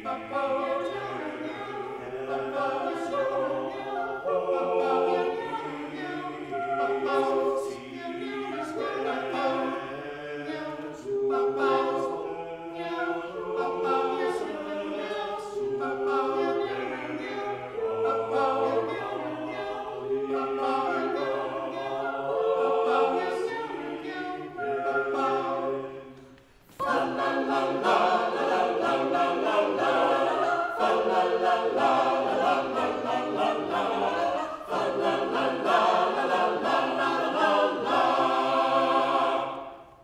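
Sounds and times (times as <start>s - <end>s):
a cappella choir singing: 0.0s - 40.0s.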